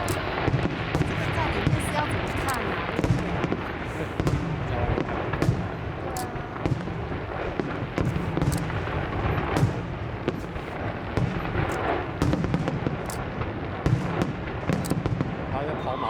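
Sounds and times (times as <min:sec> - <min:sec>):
fireworks crackling: 0:00.0 - 0:15.8
fireworks bursting: 0:00.0 - 0:15.9.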